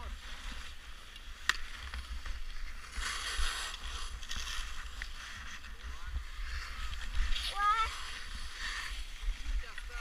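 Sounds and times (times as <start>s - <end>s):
skis scraping over snow: 0.0s - 10.0s
wind rumbling on microphone: 0.0s - 10.0s.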